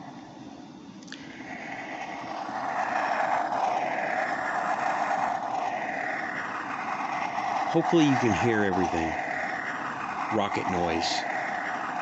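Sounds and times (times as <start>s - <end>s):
toy rocket engine noise effect: 1.2s - 12.0s.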